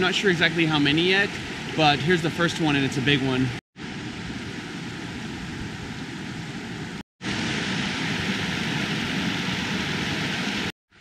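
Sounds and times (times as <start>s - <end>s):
creek water rushing over rocks: 0.0s - 5.4s, 6.1s - 10.7s.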